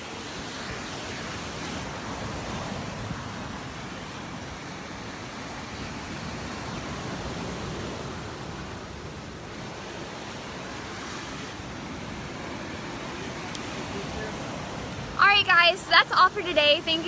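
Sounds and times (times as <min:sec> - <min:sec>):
surf washing ashore: 0:00.0 - 0:17.0.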